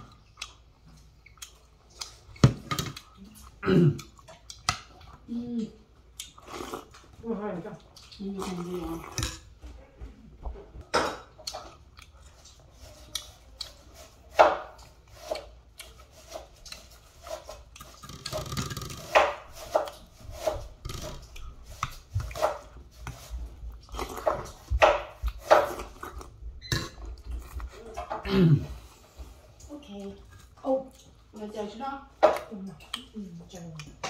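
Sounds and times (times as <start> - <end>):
person chewing: 0.0 - 9.7, 11.2 - 31.4, 32.4 - 34.0.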